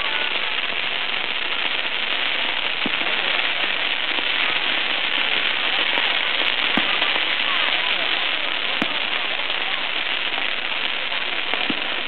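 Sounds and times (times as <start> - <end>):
fireworks crackling hiss: 0.0 - 12.0.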